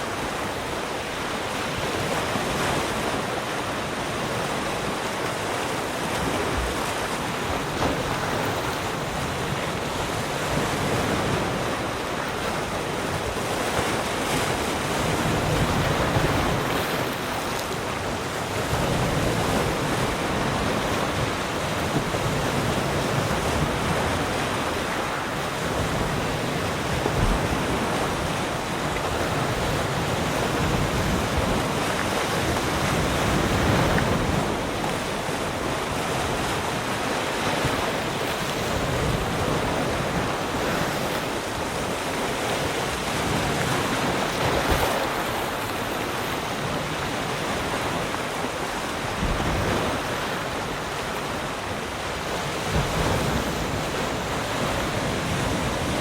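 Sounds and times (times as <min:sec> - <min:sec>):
waves breaking on shore: 0:00.0 - 0:56.0
wind noise on microphone: 0:00.0 - 0:56.0.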